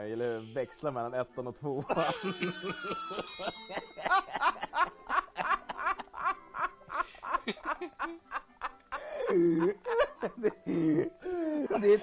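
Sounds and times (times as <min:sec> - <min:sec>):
men laughing: 0:01.8 - 0:12.0.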